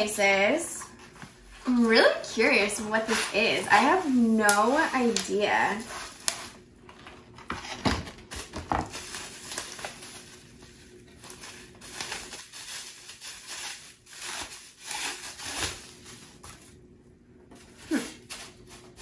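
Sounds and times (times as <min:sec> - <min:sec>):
mailer and paper crinkling: 0:01.0 - 0:16.8.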